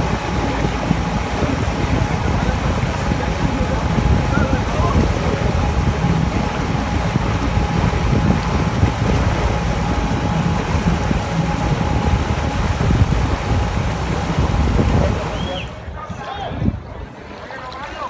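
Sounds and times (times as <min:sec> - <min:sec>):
boat engine humming: 0:00.0 - 0:16.1
wind buffeting microphone: 0:00.0 - 0:18.0.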